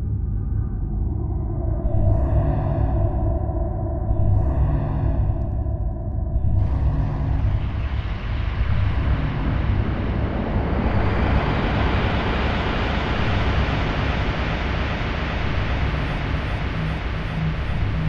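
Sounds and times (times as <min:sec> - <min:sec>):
dark ambient drone music: 0:00.0 - 0:18.0.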